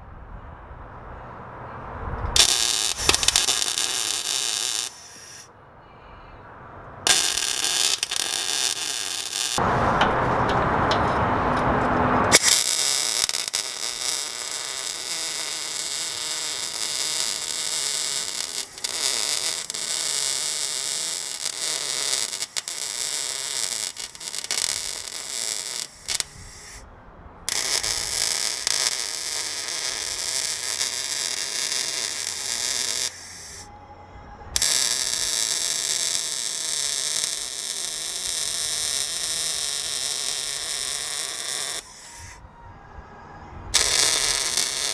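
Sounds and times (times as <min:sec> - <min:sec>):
arc welding crackling hiss: 0:02.4 - 0:05.5, 0:07.1 - 0:11.5, 0:12.2 - 0:26.8, 0:27.5 - 0:33.7, 0:34.6 - 0:42.4, 0:43.8 - 0:44.9.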